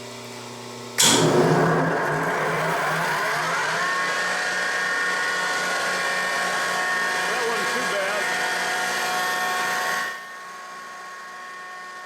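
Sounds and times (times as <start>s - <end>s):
planer motor whine: 1.0s - 12.0s.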